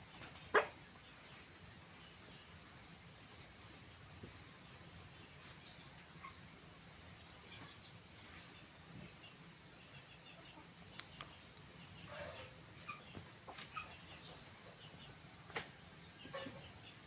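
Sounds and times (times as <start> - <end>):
chickens clucking: 0.1 - 2.3, 3.7 - 17.0.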